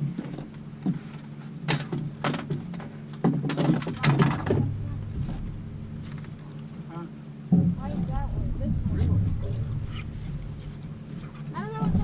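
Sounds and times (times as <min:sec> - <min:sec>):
boat motor hum: 0:00.0 - 0:12.0.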